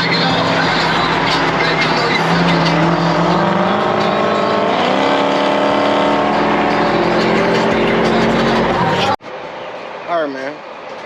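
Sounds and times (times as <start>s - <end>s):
car exhaust accelerating: 0.0s - 9.2s
road noise: 0.0s - 11.0s.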